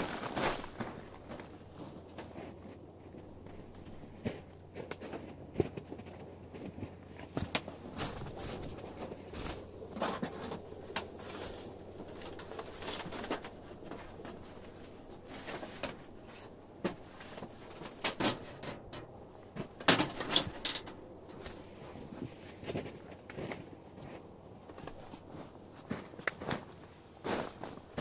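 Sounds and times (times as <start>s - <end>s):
handling rustles: 0.0s - 28.0s.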